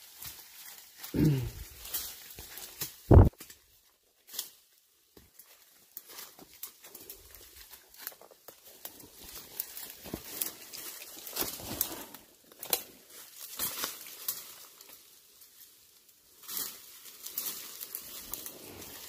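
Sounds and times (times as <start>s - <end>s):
footsteps crunching through dry leaves: 0.0s - 3.6s, 4.2s - 19.0s
twigs rustling and snapping on clothing: 0.0s - 19.0s.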